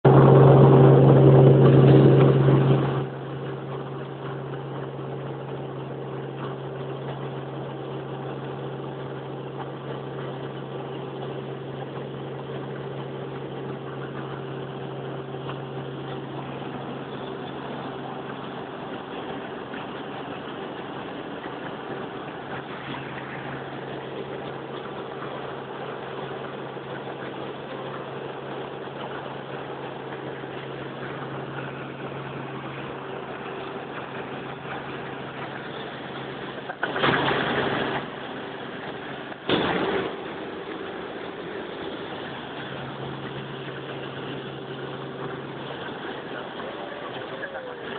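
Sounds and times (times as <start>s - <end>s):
helicopter engine and rotor drone: 0.1s - 47.9s.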